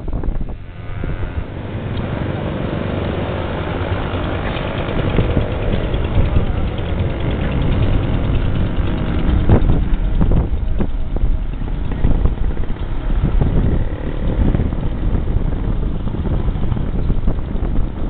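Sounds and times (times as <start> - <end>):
road traffic: 0.0 - 18.0
wind noise on microphone: 0.0 - 18.0
bus driving past: 0.7 - 18.0.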